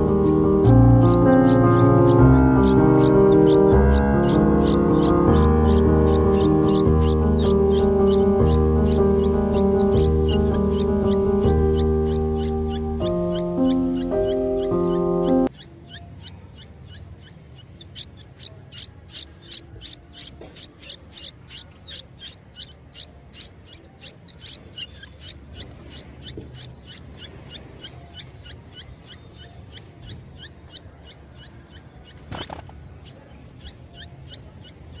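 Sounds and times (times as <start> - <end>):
nestling birds begging peeps: 0.0 - 35.0.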